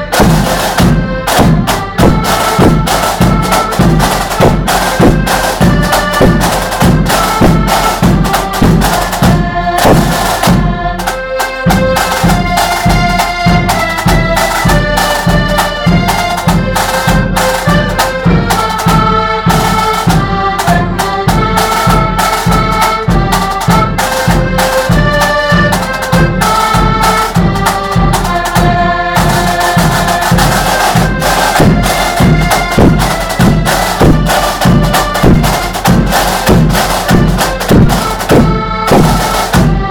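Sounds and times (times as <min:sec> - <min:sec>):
accordions playing march tune: 0:00.0 - 0:39.9
side drums and bass drum: 0:00.0 - 0:39.9.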